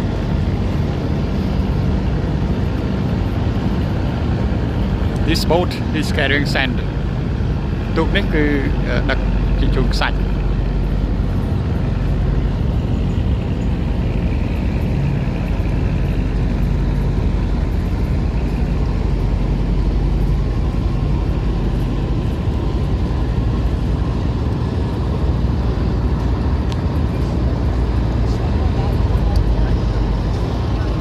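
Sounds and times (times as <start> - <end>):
ferry engine droning: 0.0 - 31.0.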